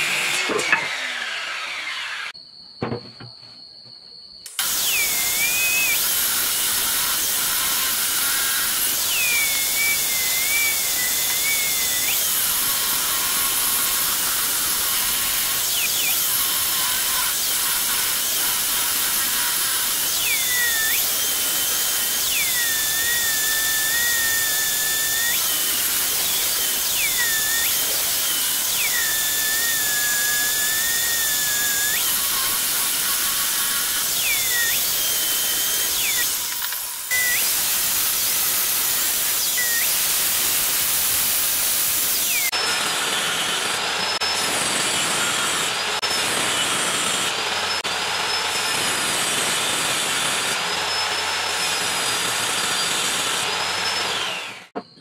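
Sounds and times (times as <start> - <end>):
circular saw cutting wood: 0.0 - 2.4, 4.5 - 55.0.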